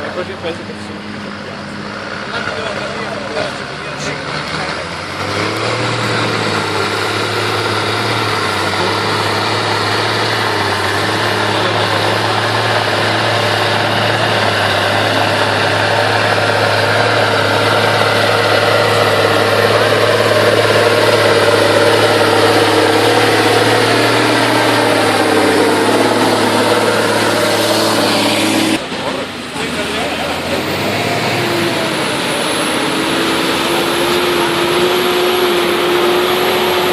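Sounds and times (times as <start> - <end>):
tractor engine idling: 5.8 - 36.9.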